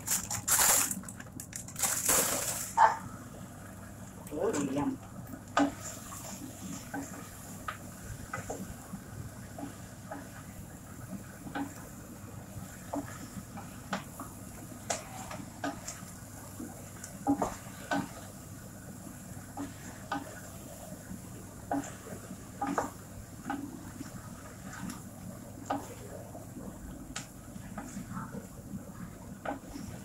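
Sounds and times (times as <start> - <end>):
wooden spoon stirring in pot: 4.3 - 30.0.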